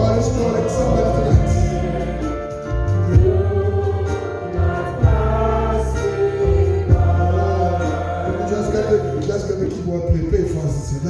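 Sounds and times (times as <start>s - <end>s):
group singing a hymn: 0.0s - 10.1s
keyboard chords and bass notes: 0.0s - 11.0s.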